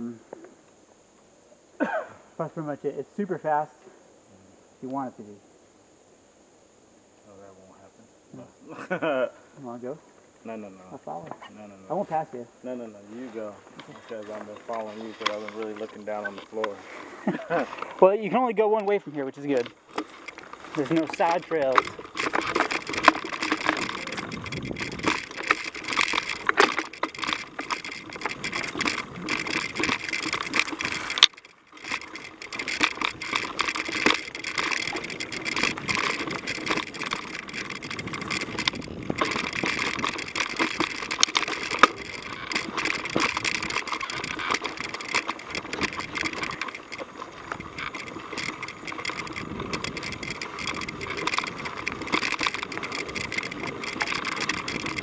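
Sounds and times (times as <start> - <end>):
bike rattling over rough trail: 9.8 - 55.0.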